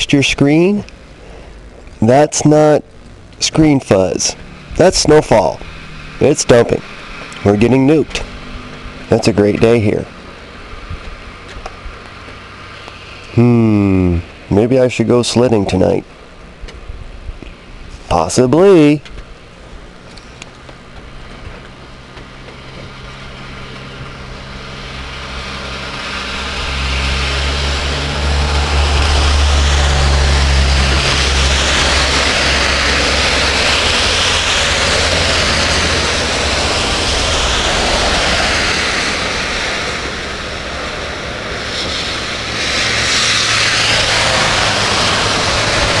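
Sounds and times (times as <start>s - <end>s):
vehicle engine hum and tyre noise: 0.0s - 46.0s.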